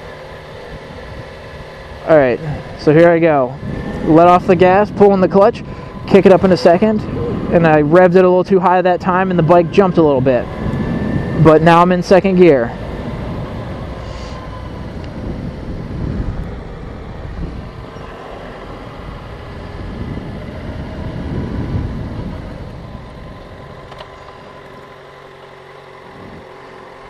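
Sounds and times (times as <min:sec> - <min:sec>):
motorcycle engine: 0:00.0 - 0:27.0
wind rush on microphone: 0:00.7 - 0:24.1, 0:26.1 - 0:26.5.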